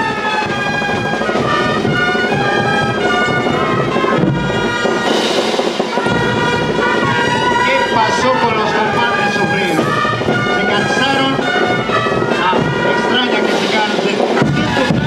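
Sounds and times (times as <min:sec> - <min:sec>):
brass band playing dance music: 0:00.0 - 0:15.0.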